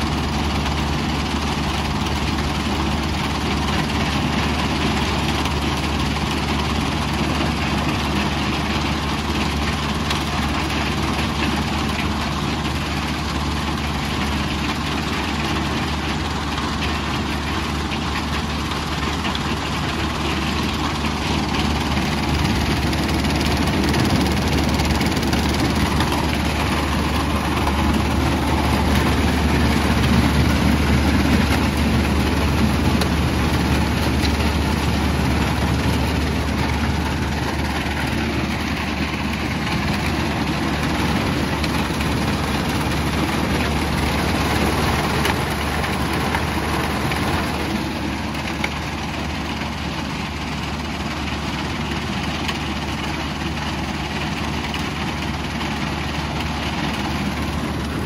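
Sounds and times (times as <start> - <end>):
diesel engine hum: 0.0 - 58.0.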